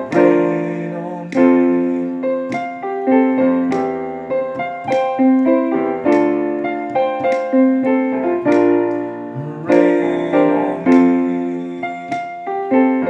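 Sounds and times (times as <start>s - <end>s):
piano playing sustained chords: 0.0s - 13.0s.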